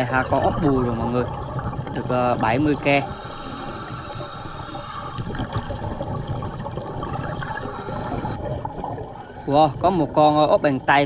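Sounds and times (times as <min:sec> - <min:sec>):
faint gurgling: 0:00.0 - 0:11.0
underwater water noise: 0:00.0 - 0:11.0.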